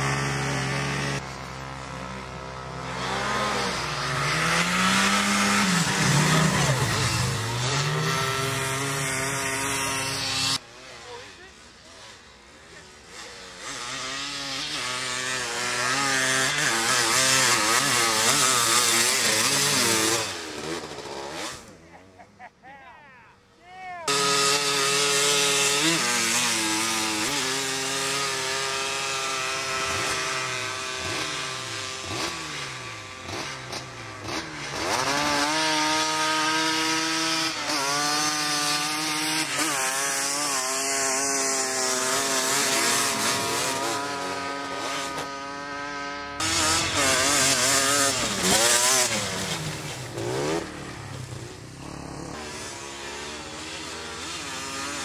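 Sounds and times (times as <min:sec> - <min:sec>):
small engine revving: 0:00.0 - 0:22.2, 0:24.0 - 0:55.0.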